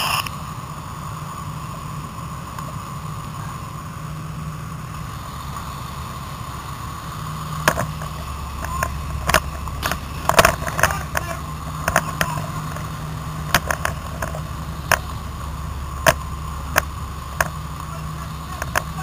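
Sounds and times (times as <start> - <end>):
fire engine rumble with whine: 0.0 - 19.0.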